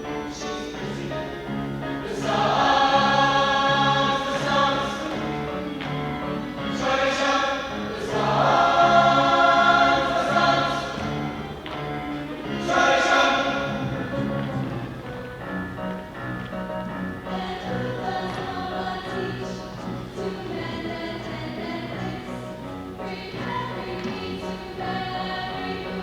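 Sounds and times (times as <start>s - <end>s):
choir singing with accompaniment: 0.0s - 26.0s.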